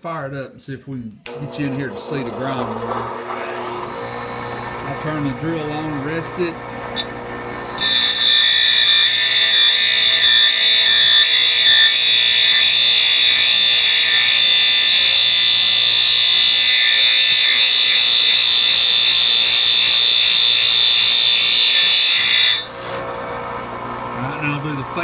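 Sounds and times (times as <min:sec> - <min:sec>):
high-pitched grinding whine: 0:01.3 - 0:25.0.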